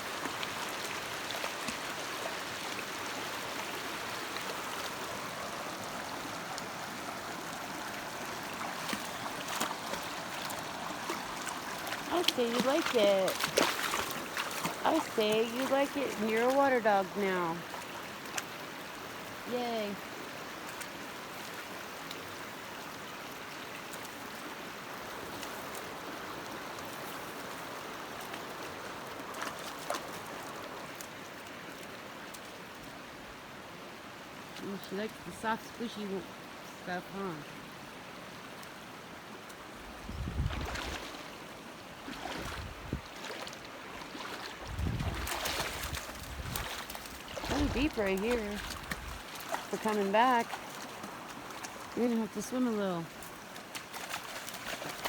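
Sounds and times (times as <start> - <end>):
creek water running over rocks: 0.0 - 55.0.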